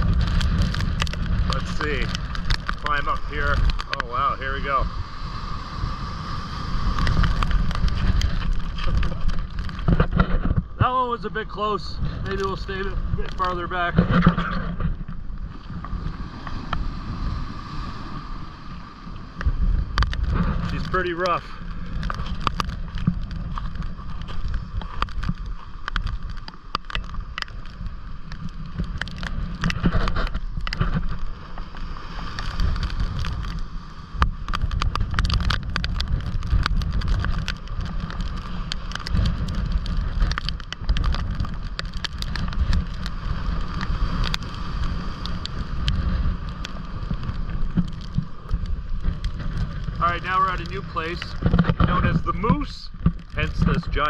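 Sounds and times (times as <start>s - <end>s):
storm surf breaking on seawall: 0.0s - 54.0s
wind buffeting microphone: 0.0s - 54.0s.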